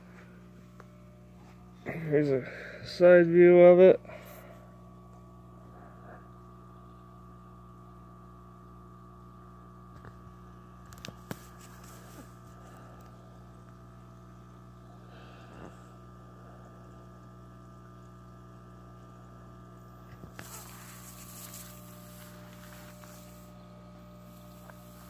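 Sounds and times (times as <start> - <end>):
air pump humming: 0.0 - 25.0.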